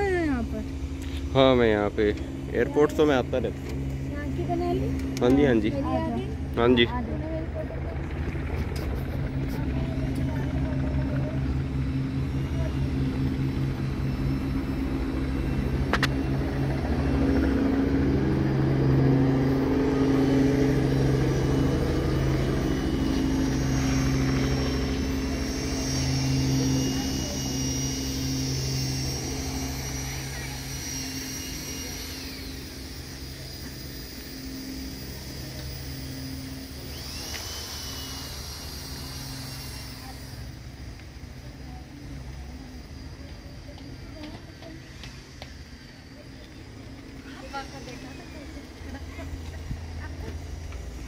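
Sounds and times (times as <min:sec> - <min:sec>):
engine drone: 0:00.0 - 0:51.0.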